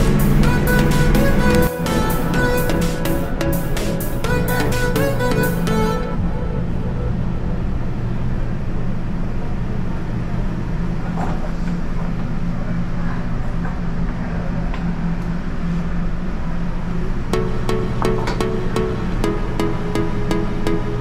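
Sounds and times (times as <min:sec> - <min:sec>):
gas wok range and exhaust hood roar: 0:00.0 - 0:17.4
low even hum: 0:00.0 - 0:21.0.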